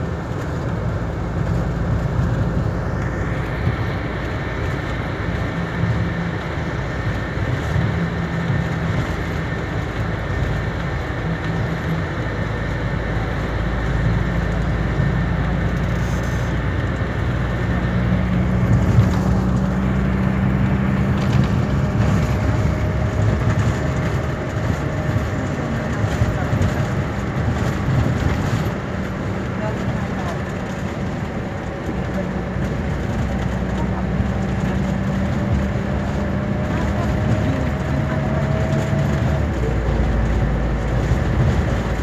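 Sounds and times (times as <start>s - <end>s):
bus engine and road noise: 0.0s - 42.0s.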